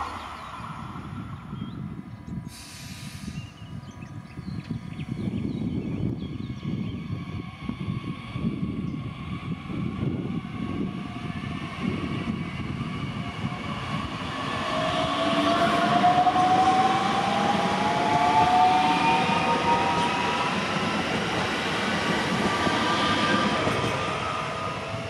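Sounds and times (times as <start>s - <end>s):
wheels rumbling on rail: 3.2s - 25.0s.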